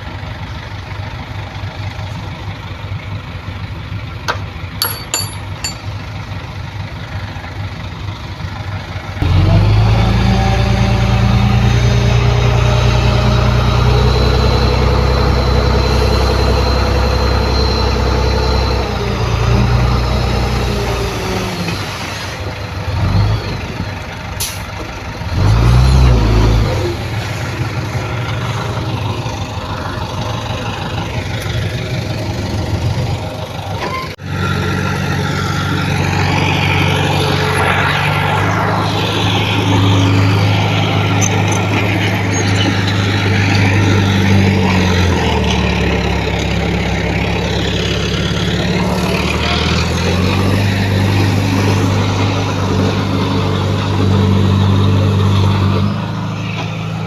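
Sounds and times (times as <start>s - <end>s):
heavy machinery engines droning: 0.0s - 57.0s.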